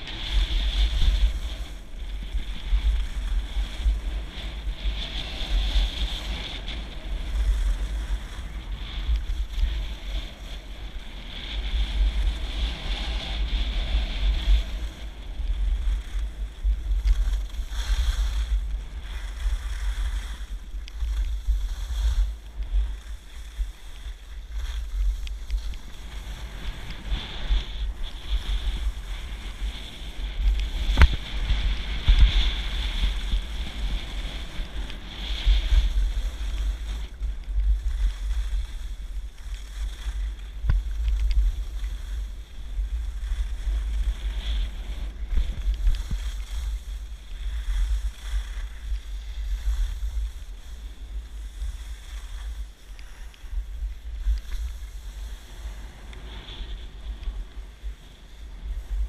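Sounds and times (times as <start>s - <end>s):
skis scraping on snow: 0.0s - 59.0s
wind buffeting microphone: 0.0s - 59.0s.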